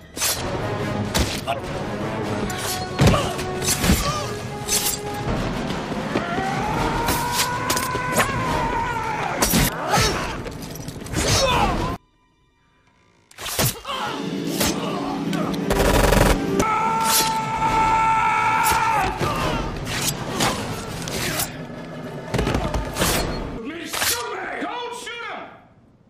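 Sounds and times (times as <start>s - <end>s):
dramatic music: 0.0s - 23.7s.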